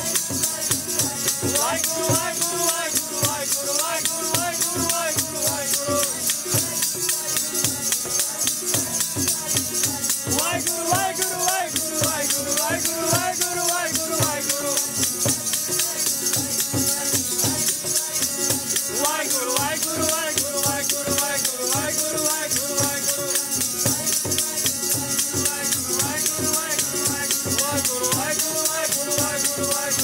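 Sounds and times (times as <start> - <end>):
devotional singing: 0.0 - 30.0
jingling percussion beat: 0.0 - 30.0.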